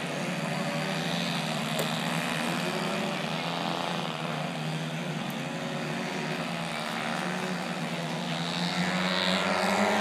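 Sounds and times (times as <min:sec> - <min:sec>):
model airplane engines droning: 0:00.0 - 0:10.0.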